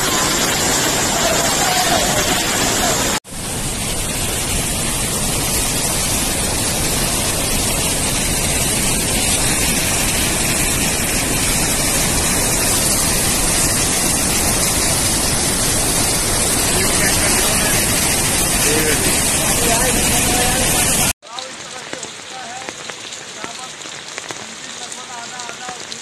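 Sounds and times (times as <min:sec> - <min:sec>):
floodwater rushing through gates: 0:00.0 - 0:26.0.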